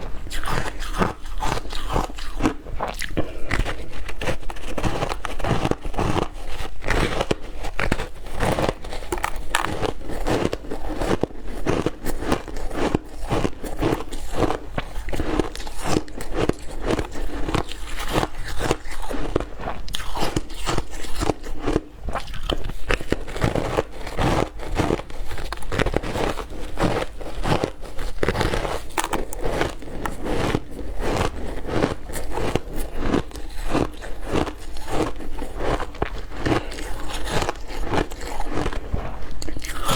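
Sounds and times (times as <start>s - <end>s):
chewing: 0.0s - 39.9s
ice cubes crunched between teeth: 0.2s - 39.9s.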